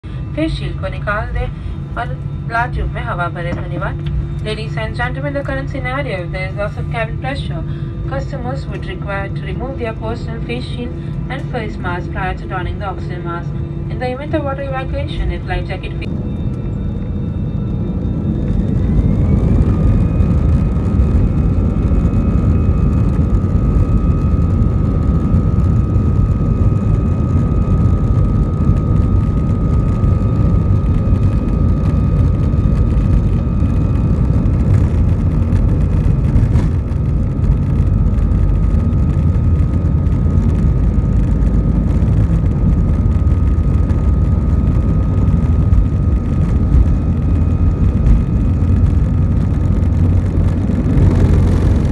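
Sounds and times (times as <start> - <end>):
airliner engines rumbling: 0.0 - 51.9
engine whine: 0.0 - 51.9.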